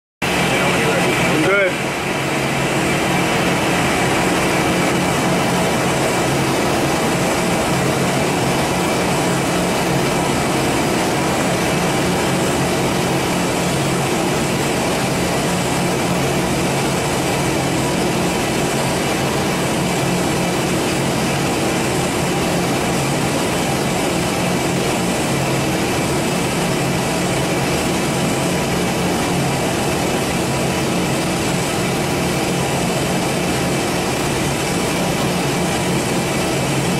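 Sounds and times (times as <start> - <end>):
lathe mechanical drone: 0.2 - 36.9.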